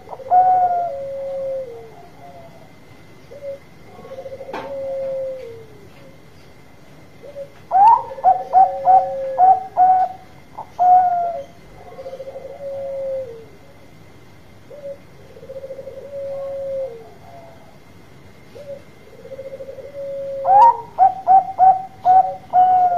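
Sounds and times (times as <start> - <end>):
dove cooing: 0.0 - 6.2, 7.1 - 13.9, 14.6 - 22.9.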